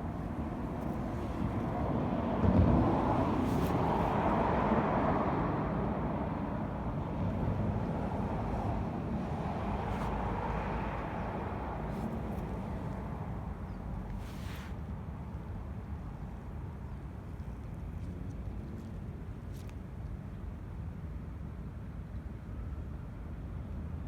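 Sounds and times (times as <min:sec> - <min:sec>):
outdoor traffic rumble: 0:00.0 - 0:21.5.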